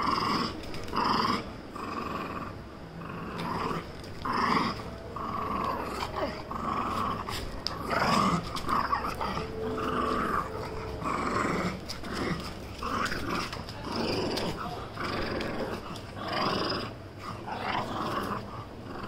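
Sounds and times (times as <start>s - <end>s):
dog growling: 0.0s - 19.0s.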